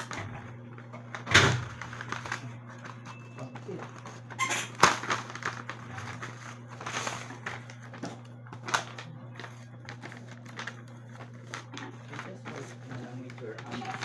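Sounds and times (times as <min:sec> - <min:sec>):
taped paper rustling and crackling: 0:00.0 - 0:14.0.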